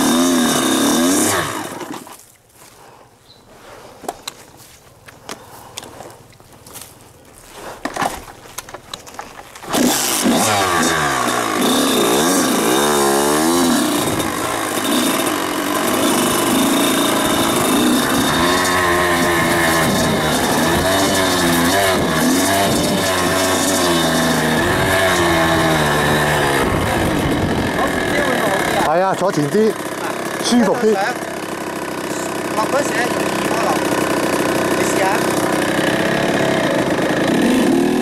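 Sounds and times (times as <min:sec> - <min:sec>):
two-stroke dirt bike engine revving: 0:00.0 - 0:02.2, 0:09.6 - 0:38.0.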